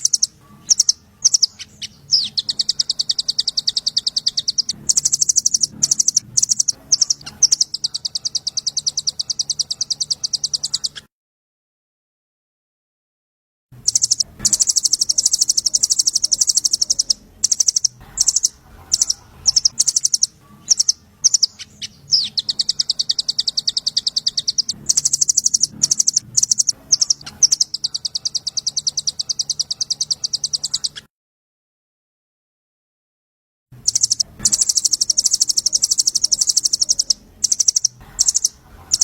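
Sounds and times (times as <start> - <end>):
bird chipping calls: 0.0 - 11.1, 13.8 - 31.1, 33.9 - 39.0.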